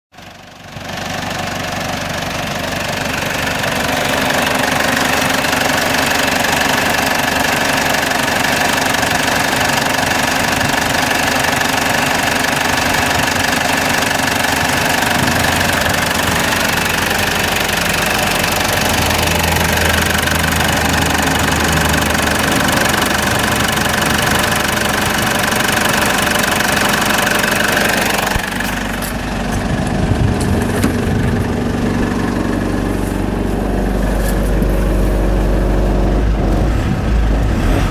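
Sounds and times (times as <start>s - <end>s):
diesel engine idling: 0.1s - 37.9s.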